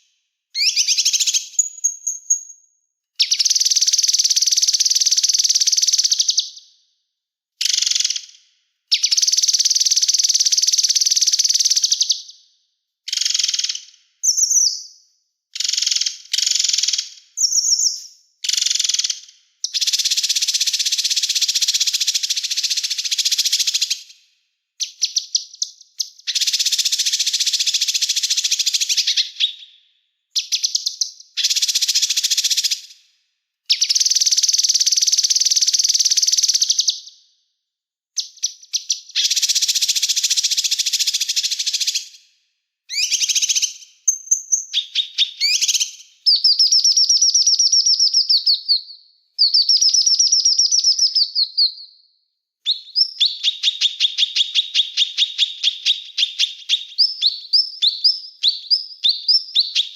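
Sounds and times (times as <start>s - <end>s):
bird chirps: 0.0s - 6.8s, 7.6s - 12.5s, 13.1s - 24.2s, 24.8s - 33.0s, 33.7s - 37.2s, 38.2s - 42.2s, 42.9s - 59.9s.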